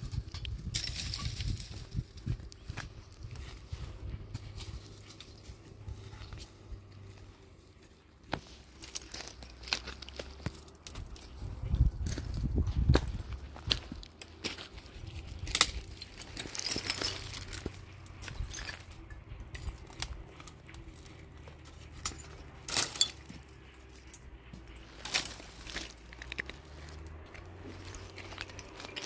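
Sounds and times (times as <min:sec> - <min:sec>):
small objects being handled: 0:00.0 - 0:29.0.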